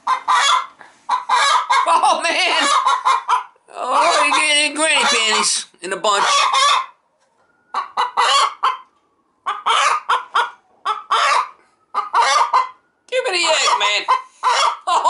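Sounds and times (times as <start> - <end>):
hen squawking and clucking: 0.0 - 7.0, 7.7 - 15.0.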